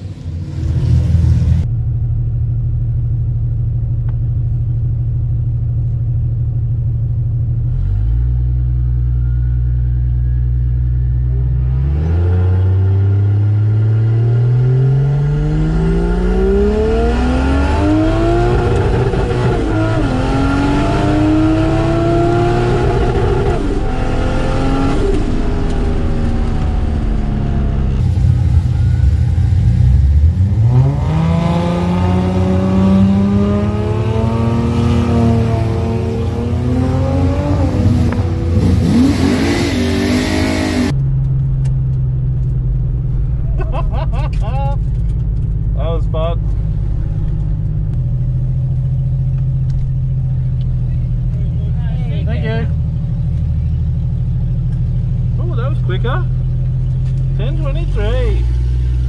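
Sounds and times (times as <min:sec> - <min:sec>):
car engine revving: 0:07.6 - 0:59.0.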